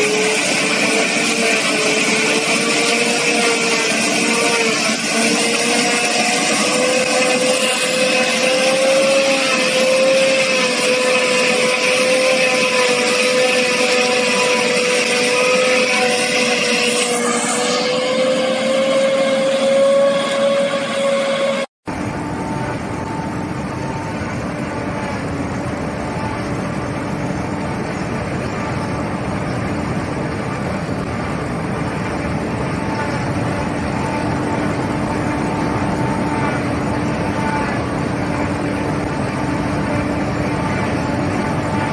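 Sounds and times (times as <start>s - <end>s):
continuous rushing noise: 0.0s - 41.9s
harvester mechanical whine: 0.0s - 41.9s.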